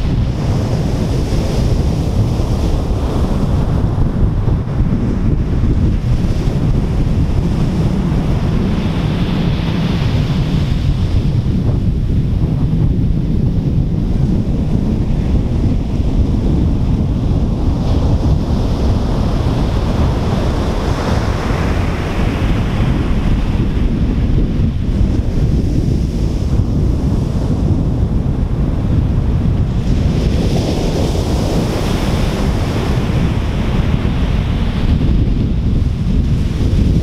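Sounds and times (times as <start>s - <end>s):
ocean waves breaking: 0.0s - 37.0s
wind buffeting microphone: 0.0s - 37.0s.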